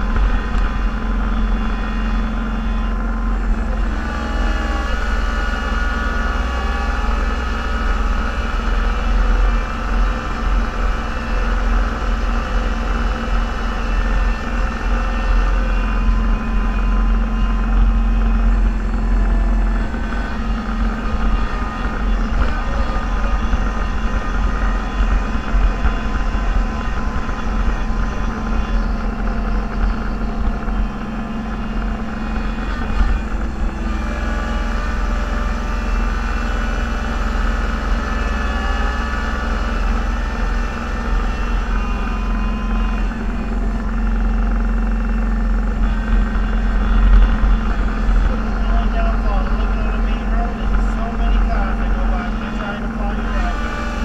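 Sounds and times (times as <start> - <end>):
snowplow engine drone: 0.0 - 54.0
steady hum: 0.0 - 54.0.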